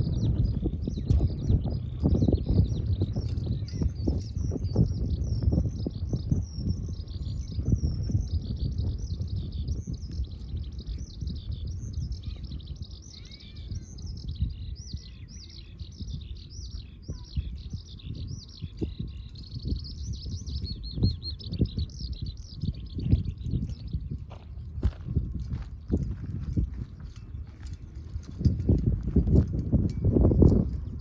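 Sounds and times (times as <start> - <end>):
songbird chirping: 0.0 - 28.7
low rumbling background: 0.0 - 31.0.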